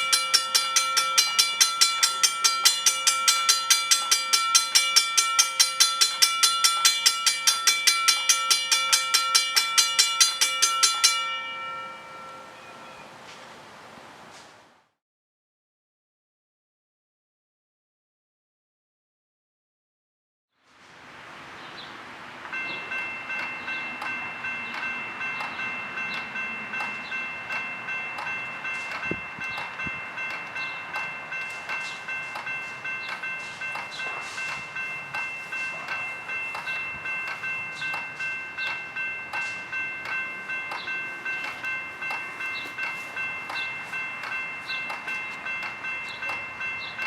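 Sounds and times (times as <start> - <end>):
railroad crossing bell ringing: 0.0 - 13.4, 22.3 - 47.0.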